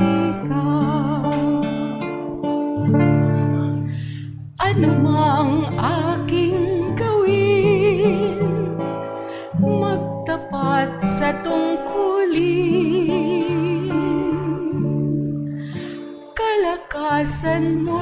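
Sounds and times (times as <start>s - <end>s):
woman singing a hymn: 0.0s - 2.2s, 4.6s - 8.8s, 9.4s - 18.0s
acoustic guitar accompaniment: 0.0s - 18.0s.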